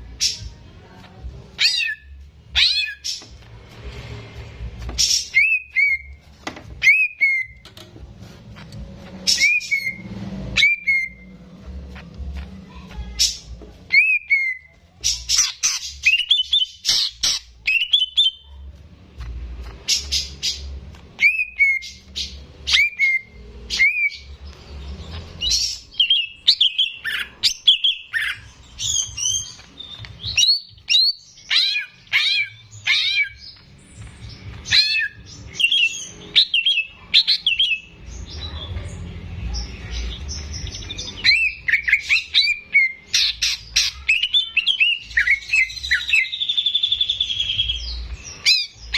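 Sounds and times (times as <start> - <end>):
bird singing chirps and trills: 1.5 - 3.4, 4.9 - 6.2, 6.8 - 7.7, 9.1 - 18.8, 19.6 - 48.9.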